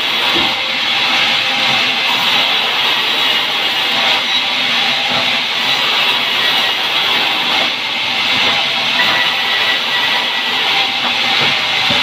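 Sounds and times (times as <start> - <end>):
band saw cutting a log: 0.0 - 12.0.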